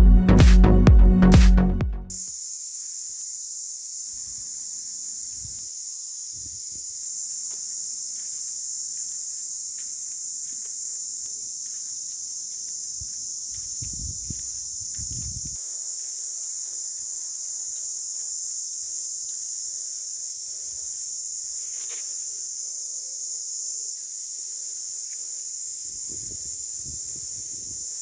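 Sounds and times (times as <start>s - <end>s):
high-pitched insect chorus: 2.1s - 28.0s.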